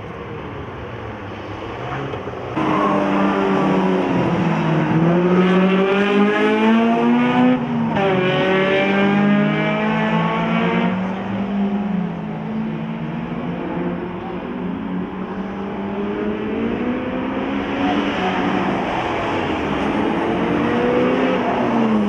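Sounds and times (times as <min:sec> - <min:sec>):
race car engine accelerating: 0:02.0 - 0:22.0.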